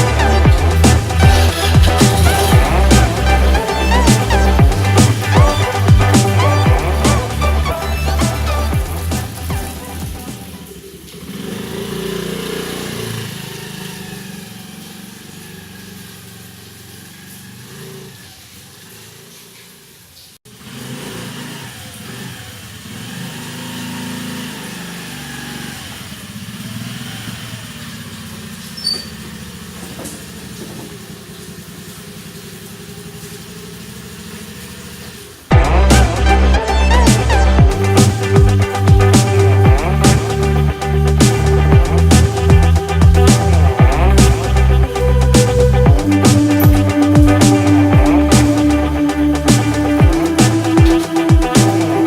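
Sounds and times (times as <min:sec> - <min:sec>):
motor scooter engine running: 0:00.0 - 0:52.0.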